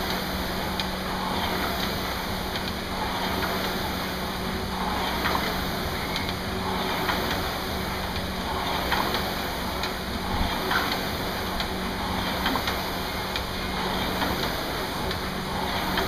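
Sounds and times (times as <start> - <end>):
rowing machine fan whooshing: 0.0 - 16.0.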